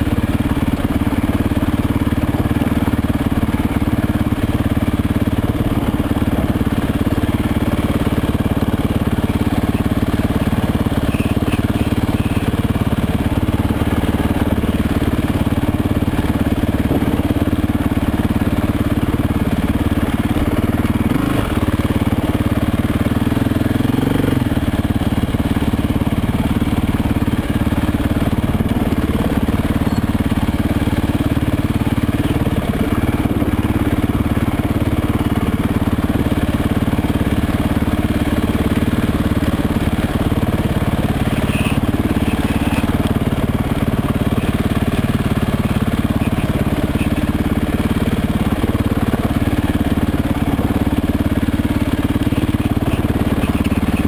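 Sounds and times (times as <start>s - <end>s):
motorcycle engine revving: 0.0s - 54.0s
motorcycle engine running: 0.0s - 54.0s.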